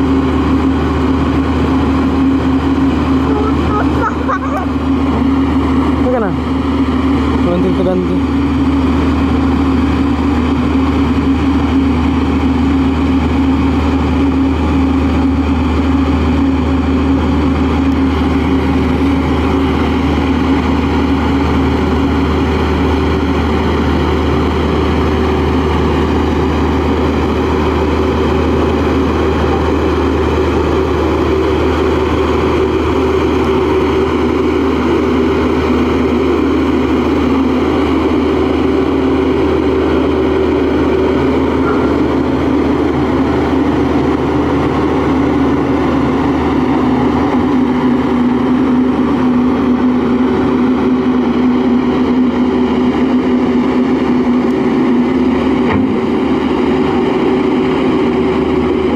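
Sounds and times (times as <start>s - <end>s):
roller compactor diesel engine droning: 0.0s - 58.9s.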